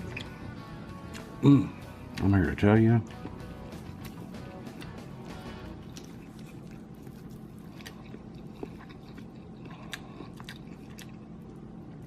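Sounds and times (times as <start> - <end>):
chewing crispy fried food: 0.0 - 1.4, 3.0 - 12.0
low steady hum: 0.0 - 12.0.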